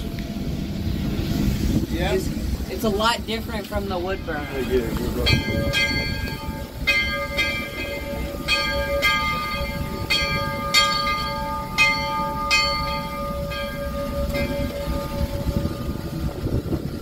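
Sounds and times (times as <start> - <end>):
steady low rumble: 0.0 - 17.0
locomotive bell ringing: 2.0 - 17.0.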